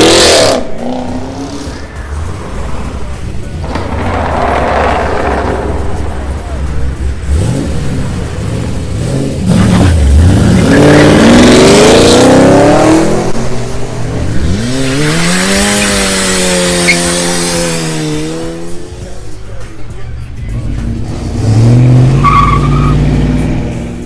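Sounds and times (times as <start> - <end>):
car engine revving hard: 0.0 - 19.1, 20.8 - 24.0
tyres spinning and squealing: 0.6 - 13.3, 14.2 - 19.1, 20.8 - 23.7.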